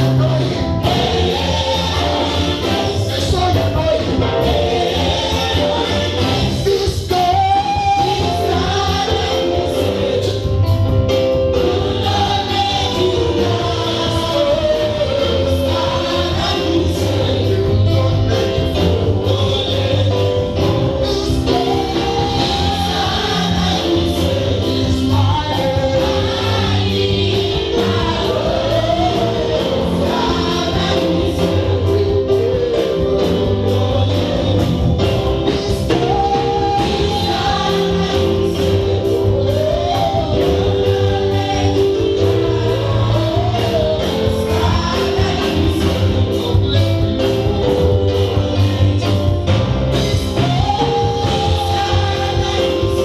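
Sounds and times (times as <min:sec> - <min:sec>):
choir singing over a beat: 0:00.0 - 0:53.0.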